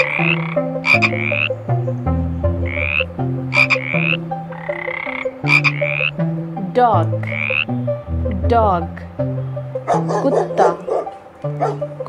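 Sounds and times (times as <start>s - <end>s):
frog croaking: 0.0s - 12.0s.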